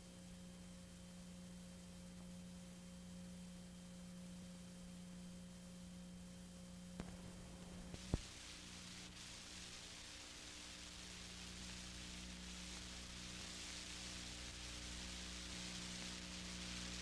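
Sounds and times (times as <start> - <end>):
faint electrical hum: 0.0 - 17.0
tape hiss: 0.0 - 17.0.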